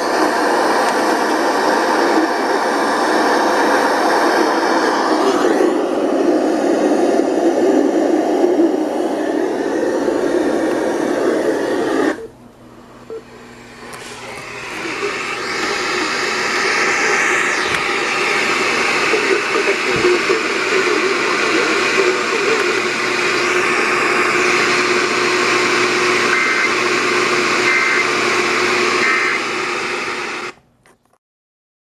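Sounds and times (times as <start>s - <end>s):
radio static hiss: 0.0s - 30.6s.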